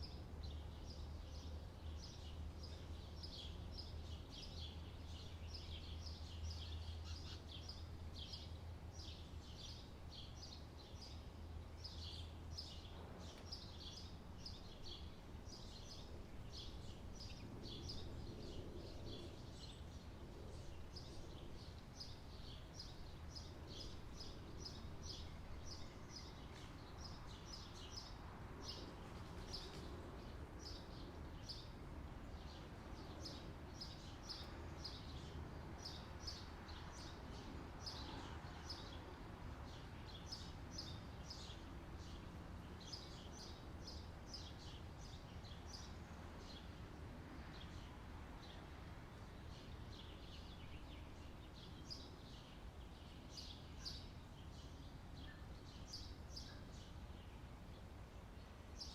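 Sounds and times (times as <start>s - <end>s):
faint low outdoor hum: 0.0s - 58.9s
songbird chirping: 0.0s - 58.9s.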